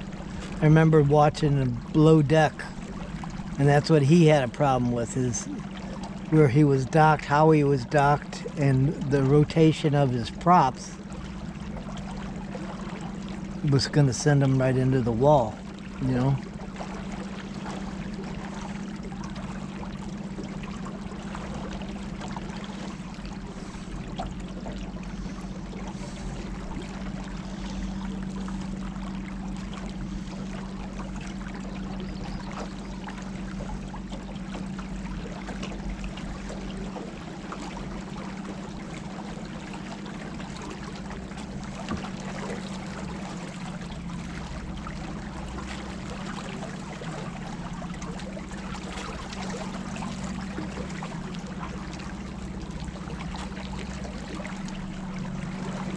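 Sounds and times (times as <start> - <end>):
river water rushing and trickling: 0.0 - 55.9
steady low hum: 0.0 - 55.9.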